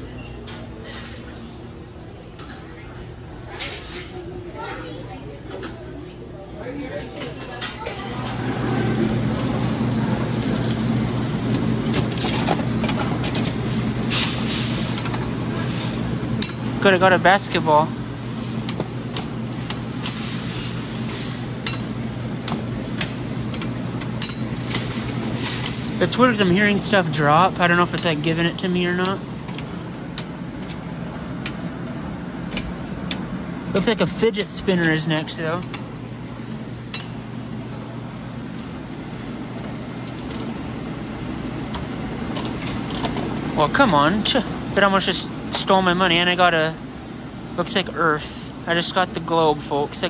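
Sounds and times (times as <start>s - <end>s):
steady low hum: 8.0s - 50.0s.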